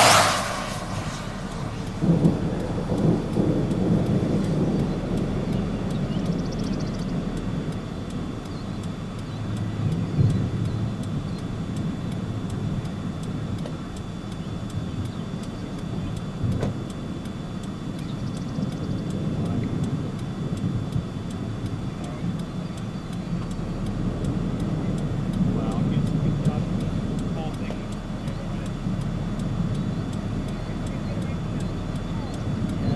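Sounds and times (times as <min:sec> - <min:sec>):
low rumble: 0:00.0 - 0:32.9.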